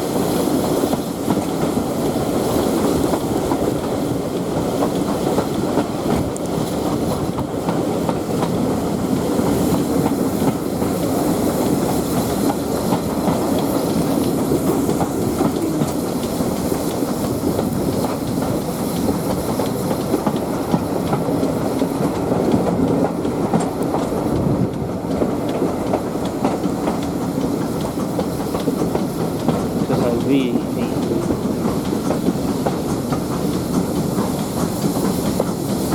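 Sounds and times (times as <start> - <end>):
clickety-clack over rail joints: 0.0 - 35.9
train wheels rumbling: 0.0 - 35.9.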